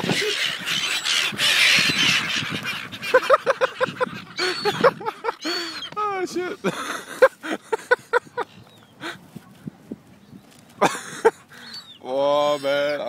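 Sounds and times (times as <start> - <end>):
seagulls calling: 0.0 - 9.3, 10.4 - 13.0.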